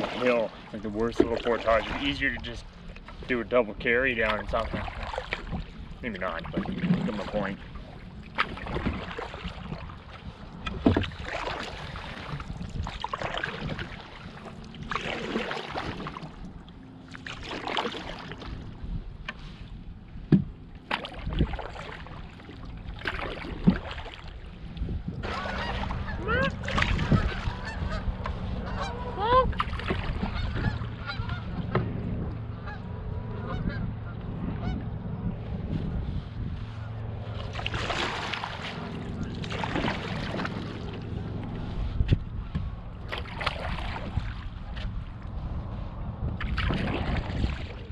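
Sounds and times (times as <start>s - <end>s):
water splashes: 0.0s - 34.9s, 36.1s - 47.9s.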